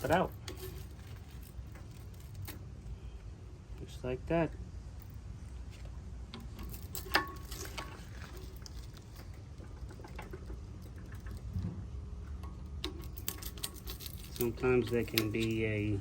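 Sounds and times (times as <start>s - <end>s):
light metal clicks and clinks: 0.0s - 3.2s, 5.0s - 11.6s, 12.2s - 16.0s
low steady rumble: 0.0s - 16.0s.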